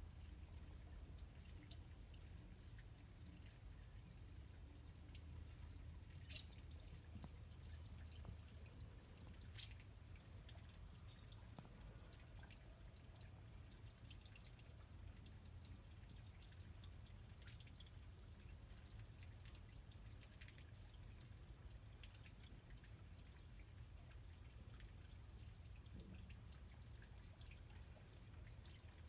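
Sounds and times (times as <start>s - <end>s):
water trickling into dish: 0.1s - 29.0s.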